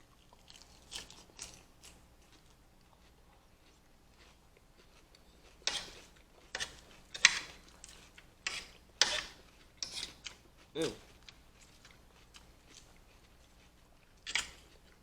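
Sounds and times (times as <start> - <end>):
crunchy food chewing: 0.0 - 15.0.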